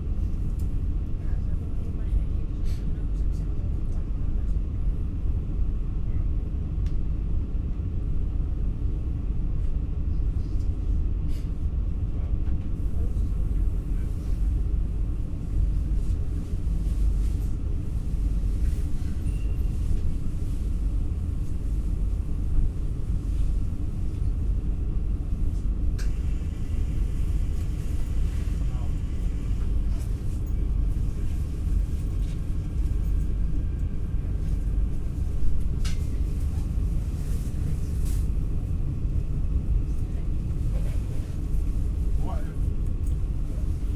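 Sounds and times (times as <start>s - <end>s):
train rumbling inside carriage: 0.0s - 43.9s.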